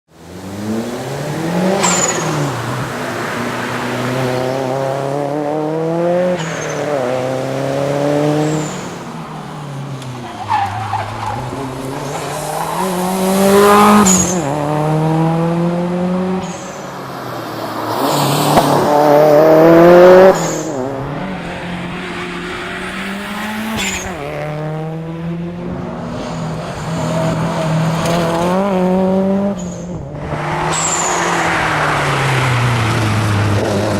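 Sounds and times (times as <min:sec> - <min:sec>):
car engine accelerating: 0:00.3 - 0:16.8, 0:17.6 - 0:33.9.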